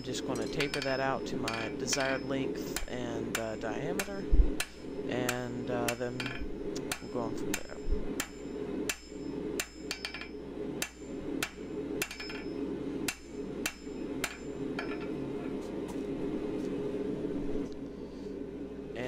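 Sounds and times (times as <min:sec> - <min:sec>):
hammer striking steel on anvil: 0:00.0 - 0:15.6.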